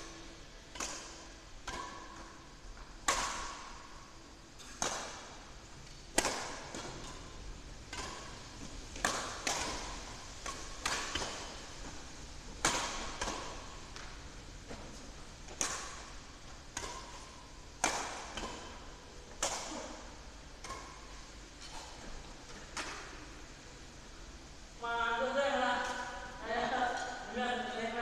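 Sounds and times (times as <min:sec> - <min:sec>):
rackets striking shuttlecock: 0:00.0 - 0:23.4, 0:25.8 - 0:27.4.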